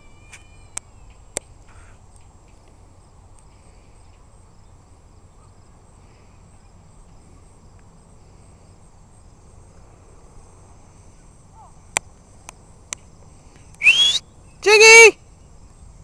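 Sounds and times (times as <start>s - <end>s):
low outdoor rumble: 0.0s - 14.6s
crickets chirping: 0.0s - 16.0s.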